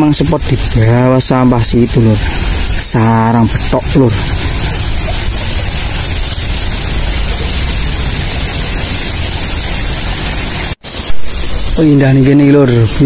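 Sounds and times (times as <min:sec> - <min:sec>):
hiss: 0:00.0 - 0:13.0
low rumble: 0:00.0 - 0:13.0
loud rushing noise: 0:02.0 - 0:13.0.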